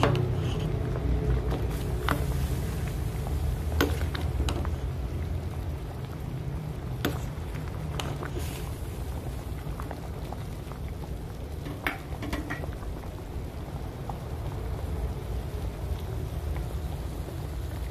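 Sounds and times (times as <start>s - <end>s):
soup bubbling in a pot: 0.0s - 17.9s.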